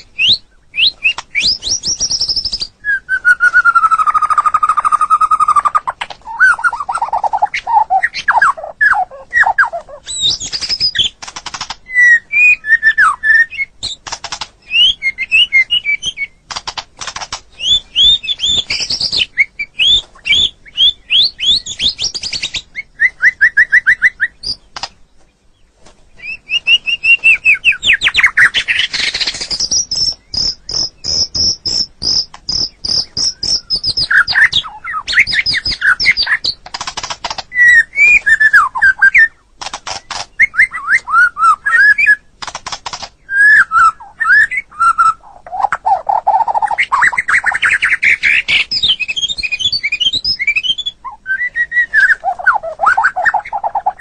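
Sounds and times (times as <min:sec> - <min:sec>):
bird singing trills and whistles: 0:00.0 - 0:54.0.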